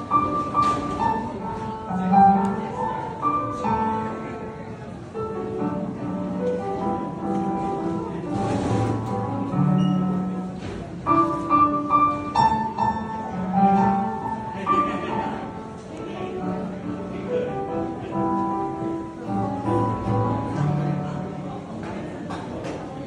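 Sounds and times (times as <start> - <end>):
electronic keyboard melody: 0.0 - 21.5.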